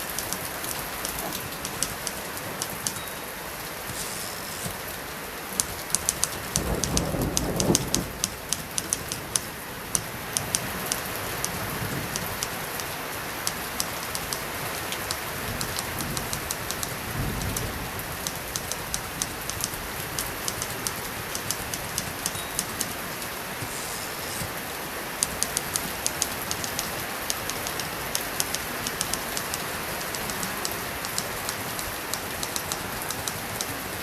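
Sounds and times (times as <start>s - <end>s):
typewriter keys clicking: 0.0s - 3.2s, 5.6s - 24.5s, 25.2s - 34.0s
light rain: 0.0s - 34.0s.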